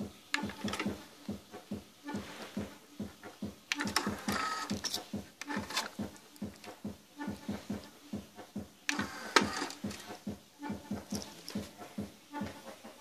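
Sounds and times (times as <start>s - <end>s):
low thudding beat: 0.0s - 13.0s.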